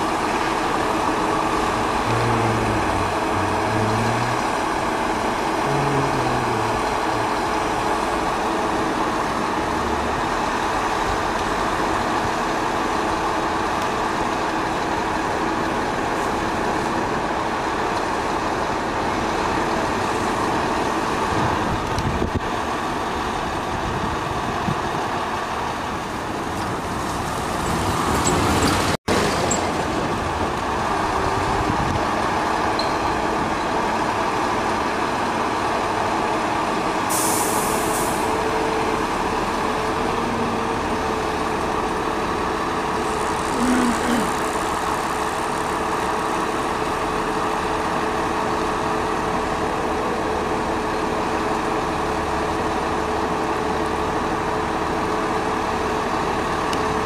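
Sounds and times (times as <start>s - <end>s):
truck diesel engine running: 0.0s - 27.0s, 29.4s - 57.0s.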